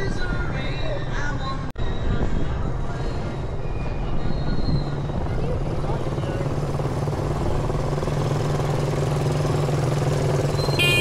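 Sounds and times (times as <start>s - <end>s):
motorcycle engines droning: 2.0s - 11.0s.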